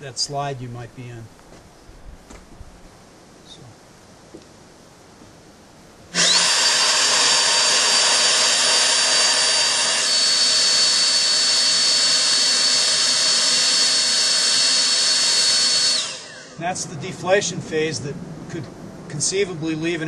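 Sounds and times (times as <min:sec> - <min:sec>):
electric fan high-pitched whine: 0:00.0 - 0:20.0.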